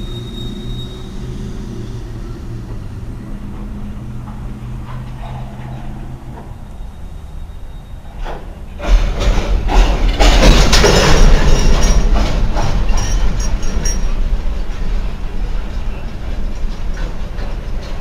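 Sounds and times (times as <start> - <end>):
train rumbling past: 0.0 - 18.0
wheels clicking on rails: 0.0 - 18.0.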